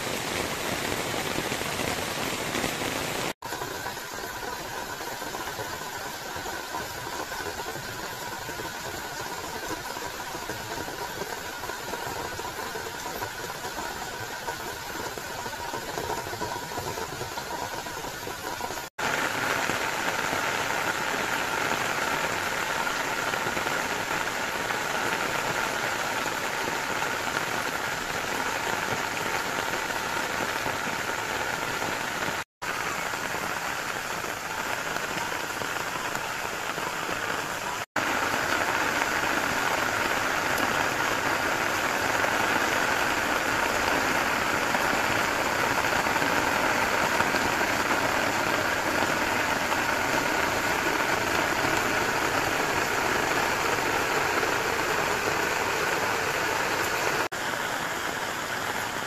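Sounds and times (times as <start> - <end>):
rain falling on foliage: 0.0 - 59.0.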